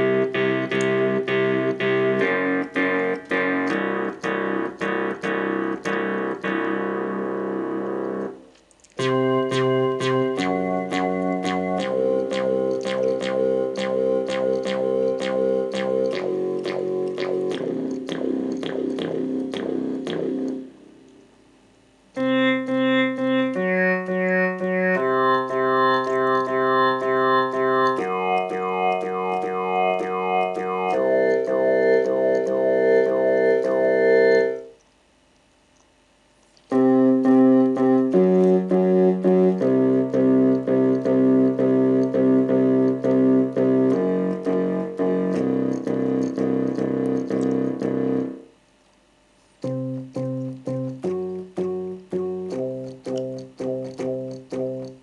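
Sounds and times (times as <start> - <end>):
synth bass pulsing notes: 0.0 - 8.4, 9.0 - 20.8, 22.2 - 34.8, 36.7 - 48.6, 49.6 - 55.0.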